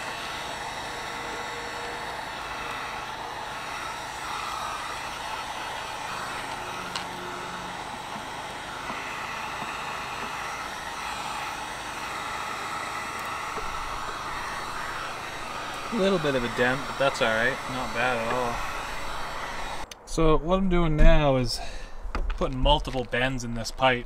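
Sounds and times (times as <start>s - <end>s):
heat gun blowing: 0.0s - 19.9s.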